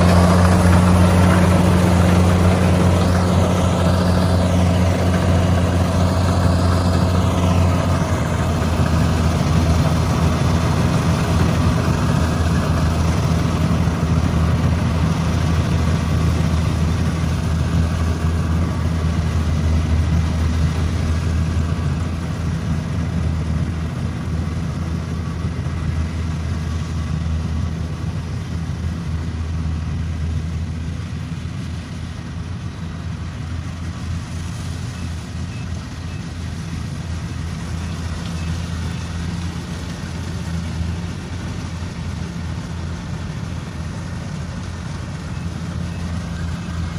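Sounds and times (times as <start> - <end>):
combine harvester diesel engine running: 0.0 - 46.9.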